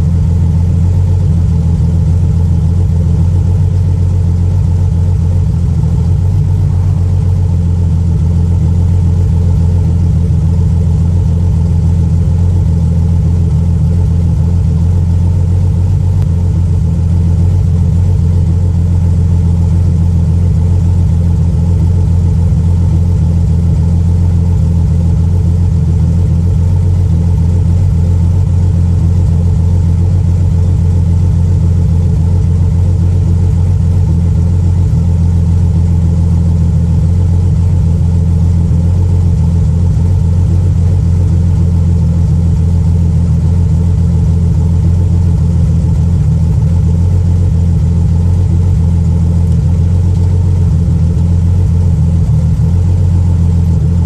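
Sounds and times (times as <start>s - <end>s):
engine exhaust idling: 0.0s - 54.0s.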